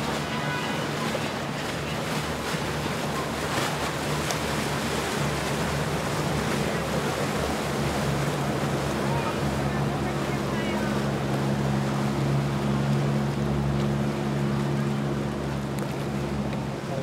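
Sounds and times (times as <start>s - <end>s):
outboard motors droning: 0.0s - 17.0s
water splashing along hull: 0.0s - 17.0s.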